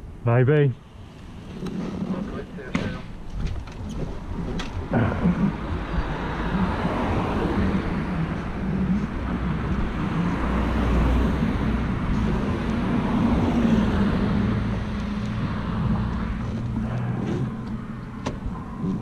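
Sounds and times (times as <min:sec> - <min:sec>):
wind rumble on microphone: 0:01.2 - 0:19.0.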